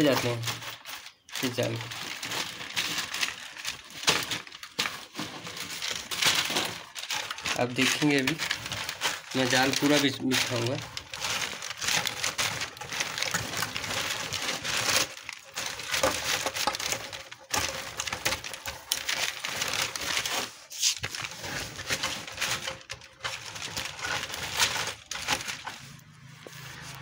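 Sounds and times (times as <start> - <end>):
plastic net crinkling and rustling: 0.0 - 27.0.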